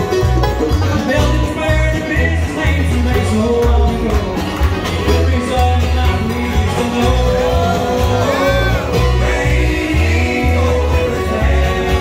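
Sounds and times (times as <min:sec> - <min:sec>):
bluegrass band playing: 0:00.0 - 0:12.0
repeating bass line: 0:00.0 - 0:12.0.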